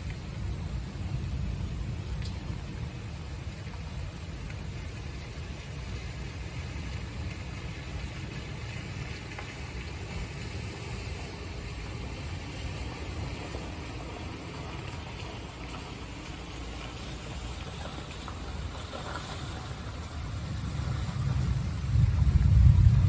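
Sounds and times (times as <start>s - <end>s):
constant low rumble: 0.0s - 23.0s
rain falling: 0.0s - 23.0s.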